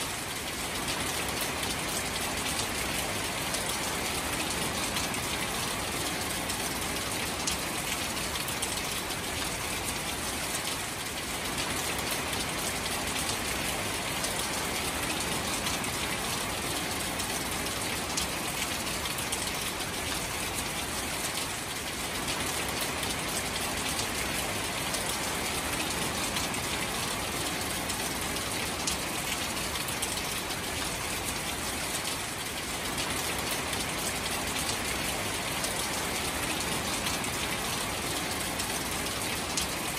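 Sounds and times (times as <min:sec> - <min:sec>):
rain on shallow water: 0:00.0 - 0:39.9.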